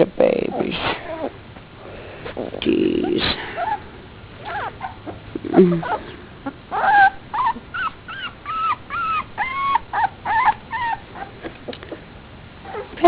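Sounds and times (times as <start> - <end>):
puppies whimpering: 0.5 - 1.4, 2.4 - 13.0.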